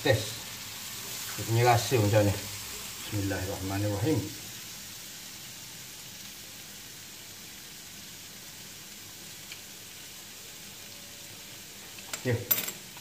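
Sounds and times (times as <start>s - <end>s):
mushrooms sizzling in a wok: 0.0s - 13.0s.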